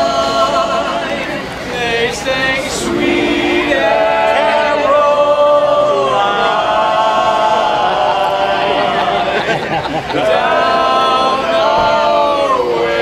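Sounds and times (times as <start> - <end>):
men singing a cappella harmony: 0.0 - 13.0.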